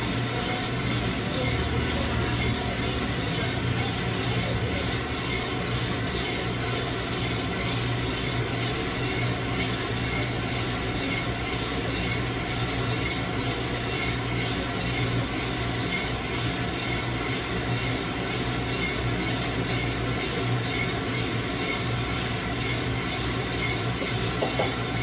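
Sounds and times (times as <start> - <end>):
coffee beans tumbling in roaster: 0.0 - 25.0.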